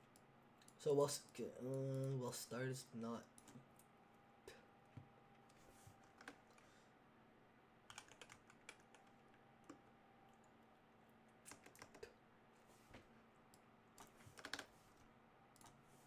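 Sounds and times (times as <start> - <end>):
faint keyboard typing: 0.0 - 3.9, 4.5 - 6.7, 7.8 - 12.2, 13.0 - 16.0.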